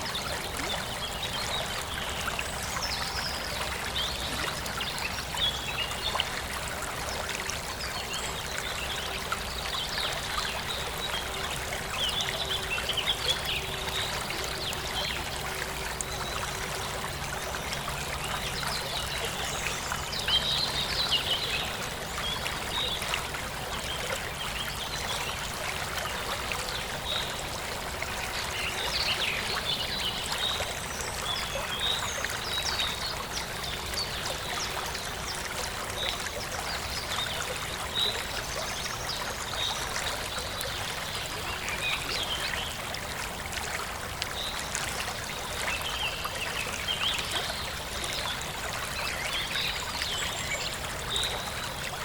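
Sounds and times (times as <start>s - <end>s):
stream flowing and trickling: 0.0s - 52.0s.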